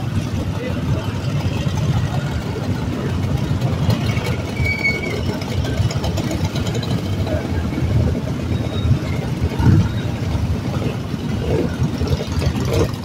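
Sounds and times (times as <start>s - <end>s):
motorcycles passing at low revs: 0.0s - 13.0s.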